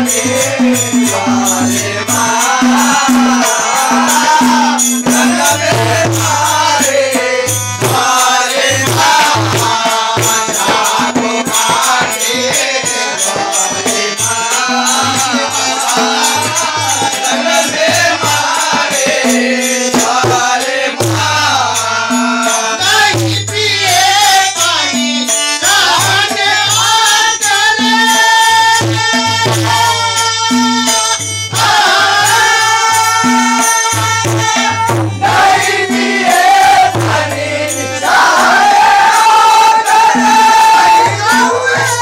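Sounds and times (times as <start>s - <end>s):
harmonium: 0.0s - 42.0s
men singing devotional song: 0.0s - 42.0s
tabla drumming: 0.0s - 42.0s.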